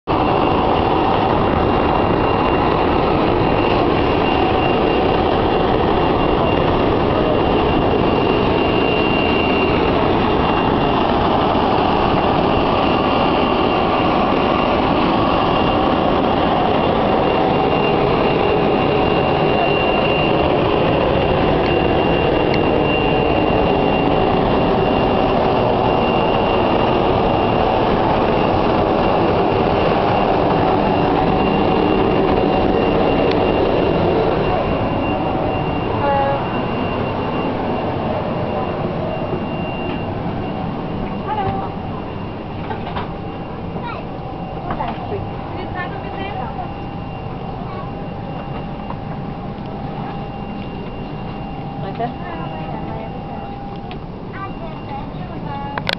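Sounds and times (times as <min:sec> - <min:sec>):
auxiliary power unit turbine running: 0:00.1 - 0:55.9.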